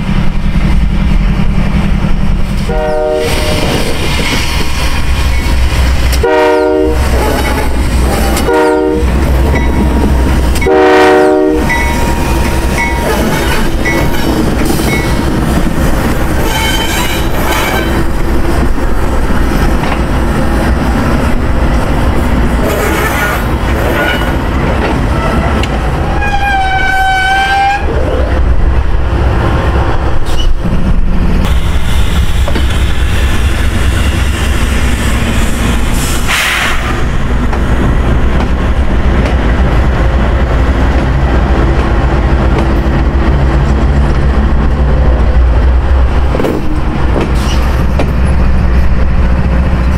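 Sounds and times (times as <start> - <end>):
locomotive engines rumbling: 0.0 - 49.9
wheels on rail: 0.0 - 49.9.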